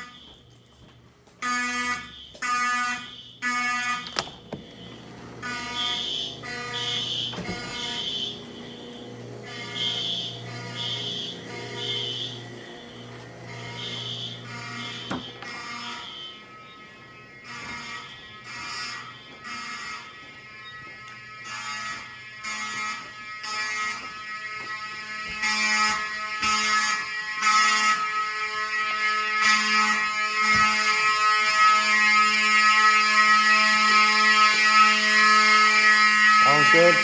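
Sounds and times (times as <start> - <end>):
fire alarm horns buzzing: 0.0 - 37.0.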